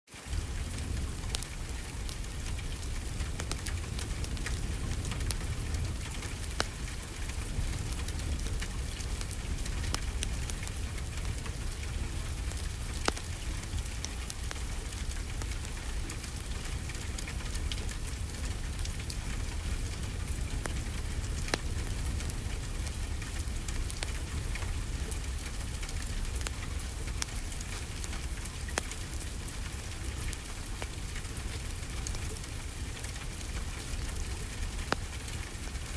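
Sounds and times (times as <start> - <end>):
steady rainfall: 0.1 - 35.9
wood fire crackling: 0.1 - 35.9.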